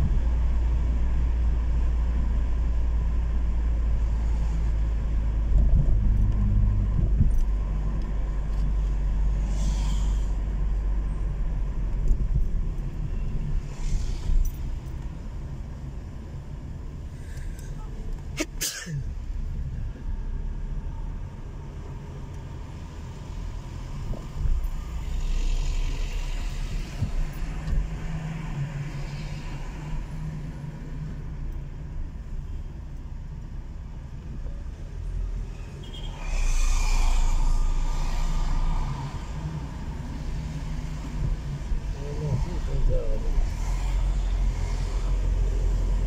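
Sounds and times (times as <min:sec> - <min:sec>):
car engine and road noise: 0:00.0 - 0:46.0
passing traffic rushes: 0:00.0 - 0:46.0.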